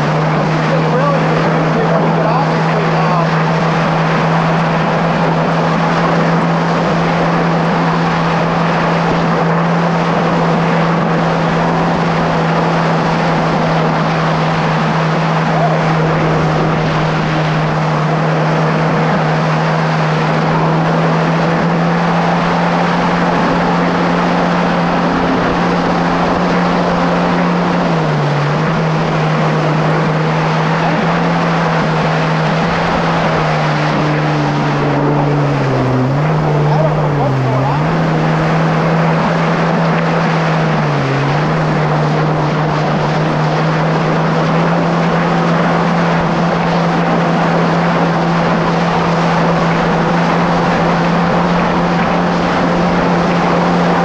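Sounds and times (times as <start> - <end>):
jet ski engine running: 0.0 - 54.0
water rushing past hull: 0.0 - 54.0.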